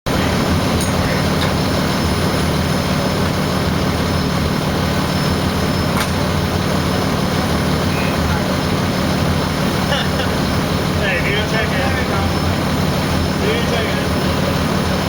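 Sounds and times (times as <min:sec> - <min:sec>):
fire engine engine running: 0:00.0 - 0:15.0.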